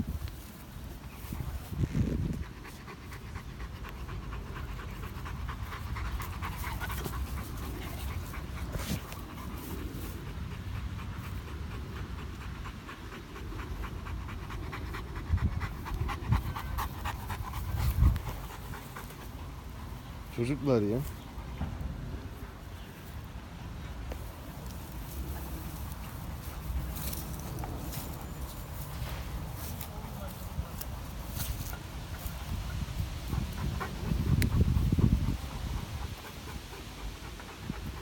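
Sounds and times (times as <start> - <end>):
dog panting: 0.1 - 38.0.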